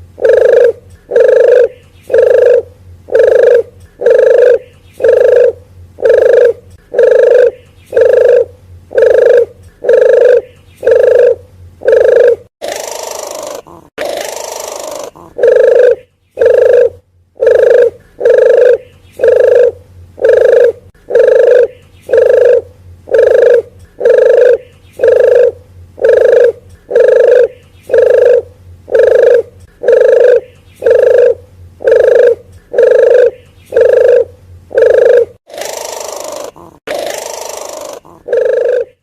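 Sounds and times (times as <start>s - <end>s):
dove lure call cooing: 0.0s - 39.0s.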